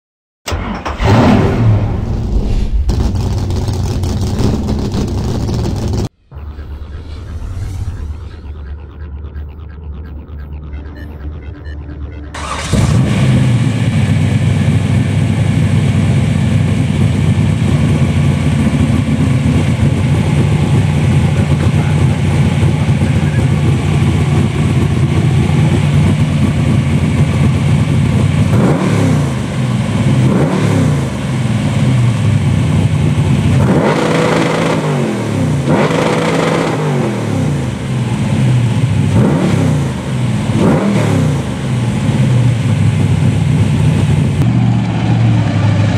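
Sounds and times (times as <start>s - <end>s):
car engine idling and revving: 0.5s - 45.9s.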